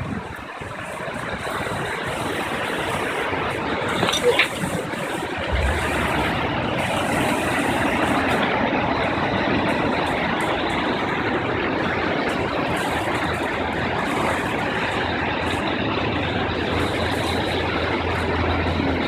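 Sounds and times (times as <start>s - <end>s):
floodwater rushing and churning: 0.0s - 19.0s
freeway traffic: 0.0s - 19.0s.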